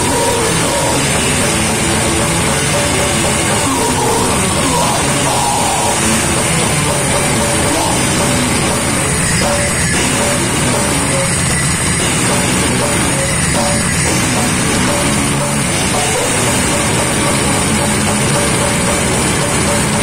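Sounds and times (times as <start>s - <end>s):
bass guitar: 0.0s - 20.0s
distorted electric guitars: 0.0s - 20.0s
drum kit: 0.0s - 20.0s.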